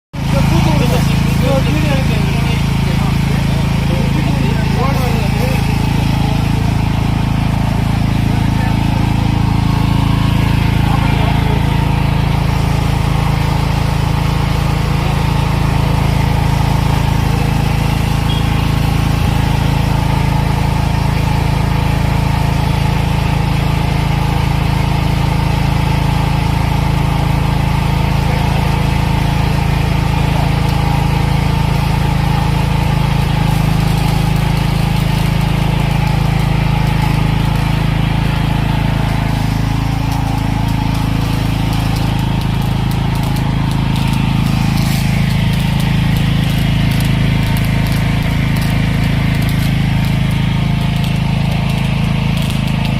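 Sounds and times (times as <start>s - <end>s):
generator engine running: 0.1s - 52.9s.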